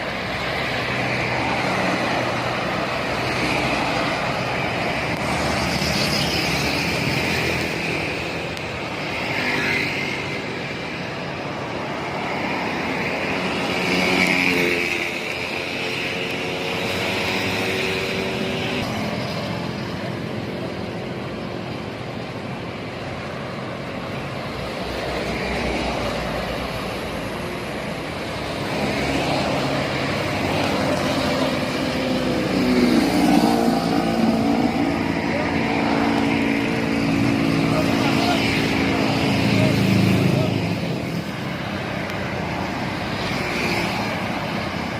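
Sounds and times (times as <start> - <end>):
highway traffic passing: 0.0 - 44.9.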